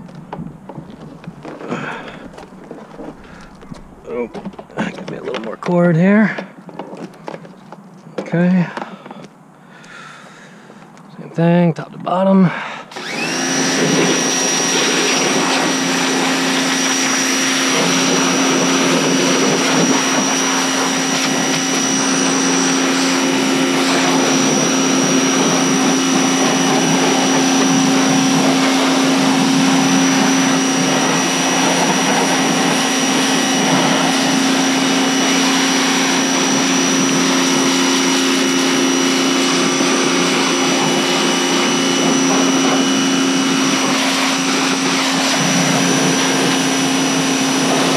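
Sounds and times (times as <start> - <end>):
pressure washer motor whine: 0.0 - 6.4, 12.9 - 47.9.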